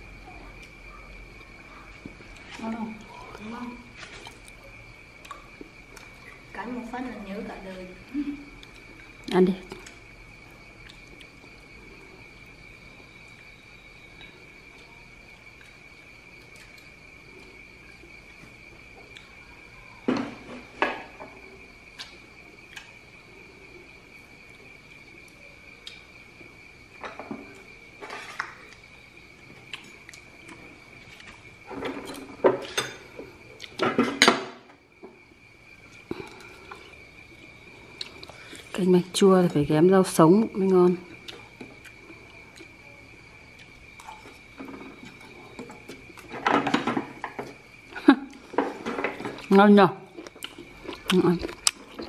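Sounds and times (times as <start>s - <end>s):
high-pitched insect trill: 0.0s - 52.0s.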